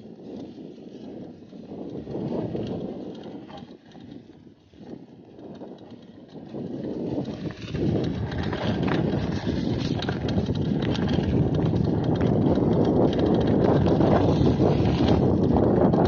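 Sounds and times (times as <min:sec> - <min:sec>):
bike clicks and rattling knocks: 0:00.0 - 0:16.0
bike tyres rumbling on gravel: 0:00.0 - 0:16.0.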